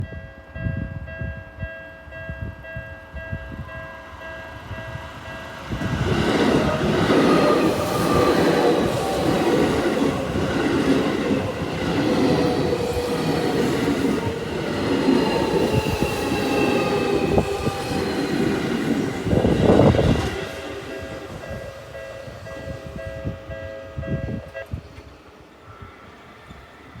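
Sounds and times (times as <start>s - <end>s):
electric train passing: 1.0s - 27.0s.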